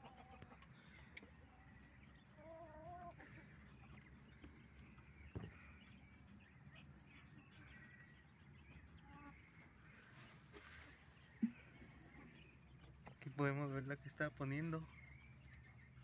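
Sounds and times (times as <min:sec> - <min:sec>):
poultry calls: 0:00.0 - 0:13.6.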